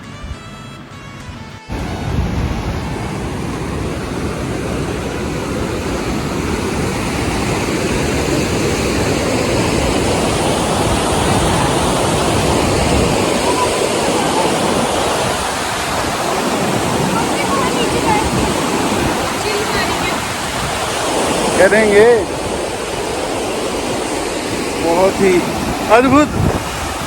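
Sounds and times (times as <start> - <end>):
fast-flowing water rushing: 1.7 - 27.0.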